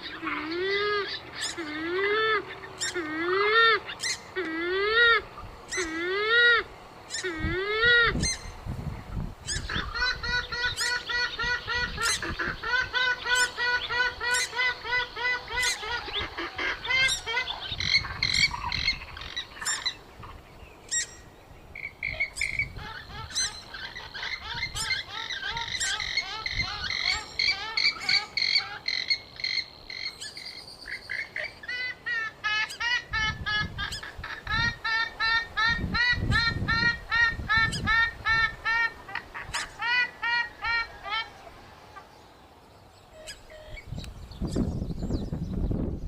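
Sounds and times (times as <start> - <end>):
gallinule honking calls: 0.0 - 8.6, 9.4 - 21.2, 21.8 - 42.1, 43.1 - 43.9.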